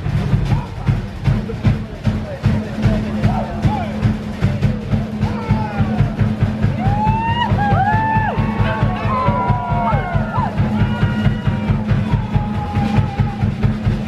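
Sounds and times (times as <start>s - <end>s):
fast drumbeat: 0.0s - 14.0s.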